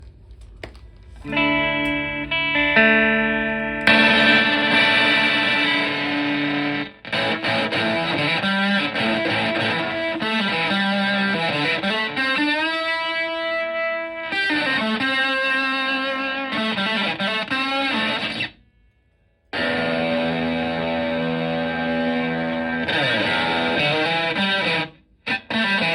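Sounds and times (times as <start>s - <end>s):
fuzzed electric guitar riffs: 1.1s - 18.6s, 19.5s - 25.9s.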